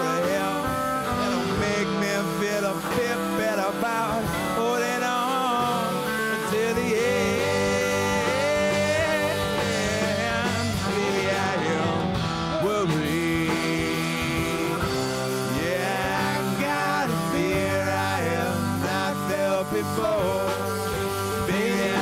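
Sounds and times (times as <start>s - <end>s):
electric cello sliding melody: 0.0s - 22.0s
rock band playing: 0.0s - 22.0s.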